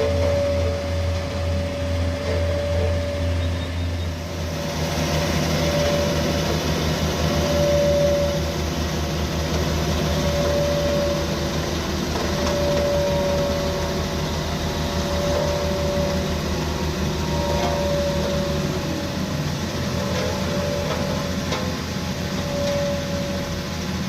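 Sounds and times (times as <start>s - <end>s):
heavy vehicle engine humming: 0.0s - 24.0s
steady whine: 0.0s - 24.0s.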